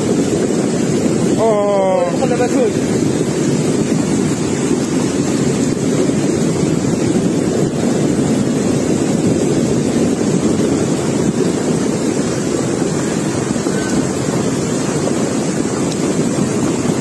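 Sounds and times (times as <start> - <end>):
floodwater rushing roar: 0.0 - 17.0.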